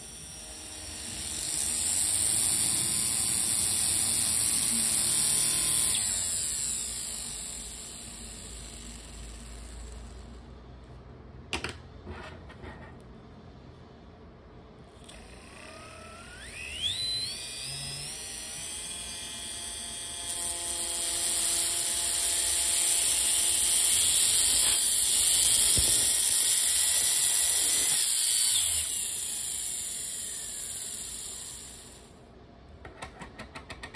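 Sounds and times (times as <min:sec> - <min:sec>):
small motor whining: 0:00.0 - 0:10.4, 0:15.0 - 0:32.1.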